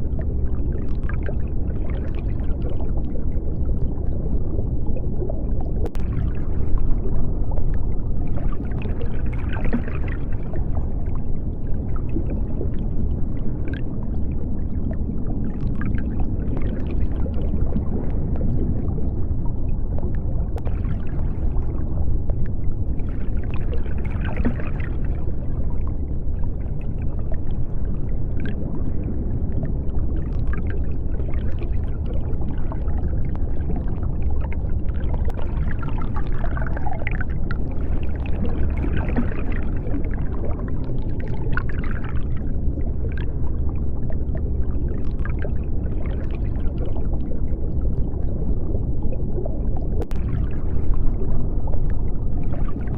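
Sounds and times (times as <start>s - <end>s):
deep underwater rumble: 0.0s - 52.9s
faint bubbling and gurgling: 0.0s - 52.9s.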